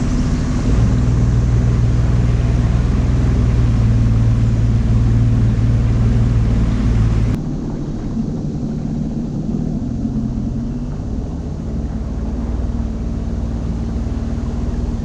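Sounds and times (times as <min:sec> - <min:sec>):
watercraft engine rumbling: 0:00.0 - 0:15.0.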